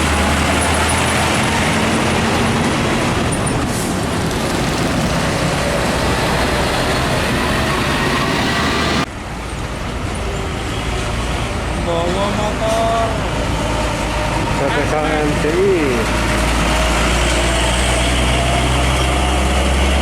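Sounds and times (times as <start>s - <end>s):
heavy truck passing: 0.0s - 20.0s
traffic noise: 0.0s - 20.0s.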